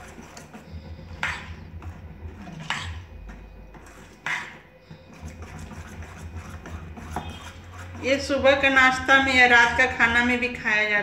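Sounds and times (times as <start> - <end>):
ladle stirring thick batter: 0.0 - 11.0.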